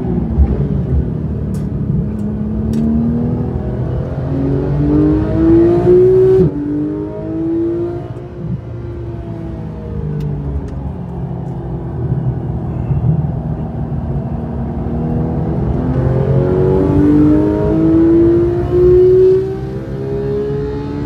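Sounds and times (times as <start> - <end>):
sports car engine revving: 0.0 - 10.1, 13.4 - 21.0
road and tyre noise: 0.0 - 21.0.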